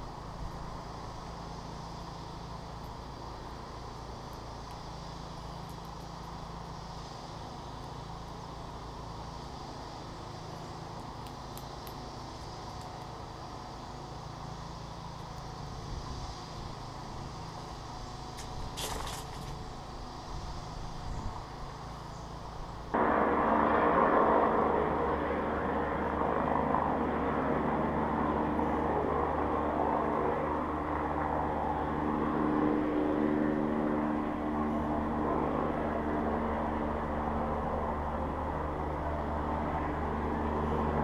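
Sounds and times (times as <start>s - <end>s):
road traffic: 0.0s - 41.0s
vehicle engine hum: 0.0s - 41.0s.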